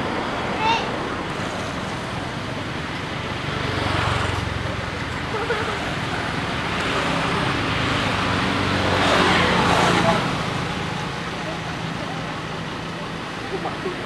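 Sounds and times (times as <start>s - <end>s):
road vehicle engines humming: 0.0s - 14.0s.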